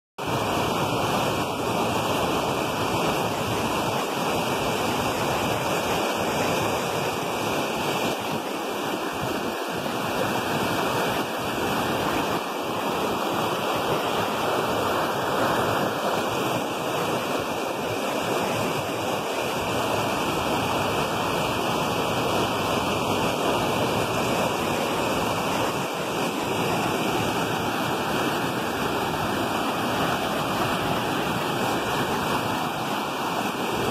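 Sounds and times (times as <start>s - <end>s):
floodwater rushing over rocks: 0.2s - 33.9s.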